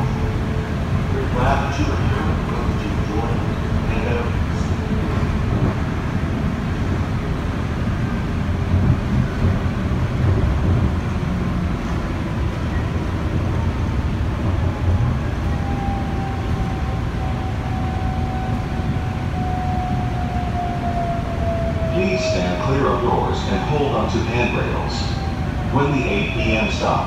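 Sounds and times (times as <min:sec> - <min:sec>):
train running gear rumble: 0:00.0 - 0:27.0.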